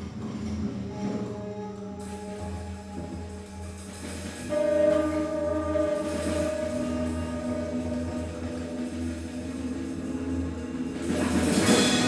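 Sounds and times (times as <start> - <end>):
layered sustained tones: 0.0 - 12.0
loud chord: 1.7 - 12.0.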